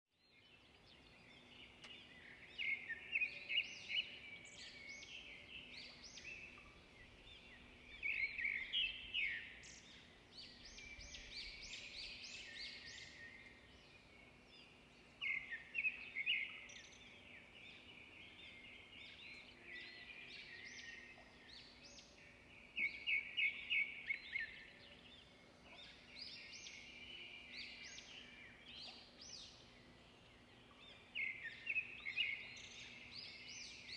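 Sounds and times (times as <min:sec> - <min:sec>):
birdsong with rapid chirps: 0:00.1 - 0:33.9.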